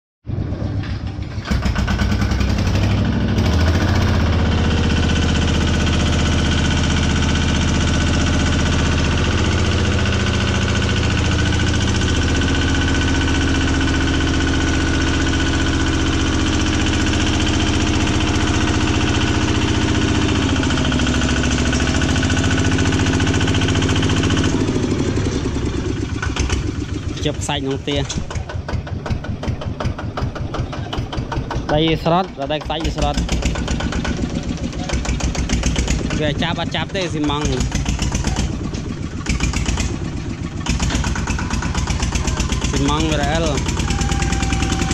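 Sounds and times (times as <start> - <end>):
tractor engine labouring: 0.2 - 44.9.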